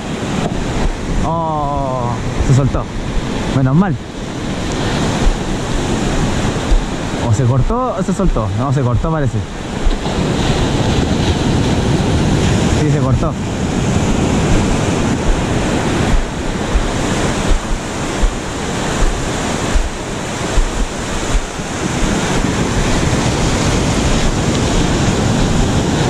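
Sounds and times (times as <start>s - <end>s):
ocean surf breaking on beach: 0.0s - 26.0s
wind buffeting microphone: 0.0s - 26.0s.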